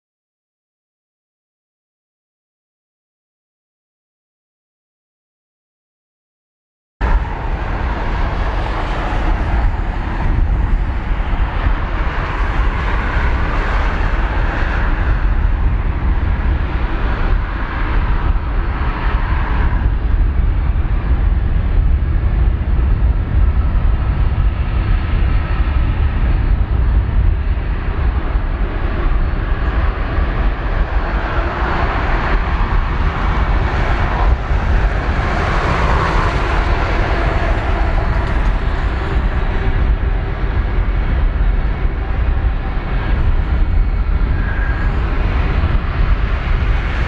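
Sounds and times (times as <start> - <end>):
jet airliner engines running: 7.0 - 47.0.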